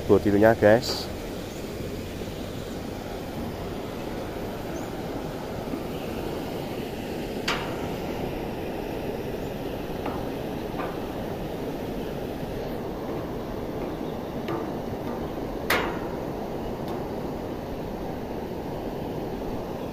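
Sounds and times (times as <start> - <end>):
river rushing: 0.1 - 19.9.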